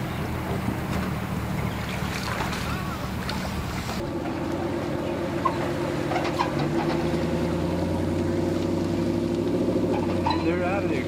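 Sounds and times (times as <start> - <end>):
truck engine running at low revs: 0.0 - 11.0.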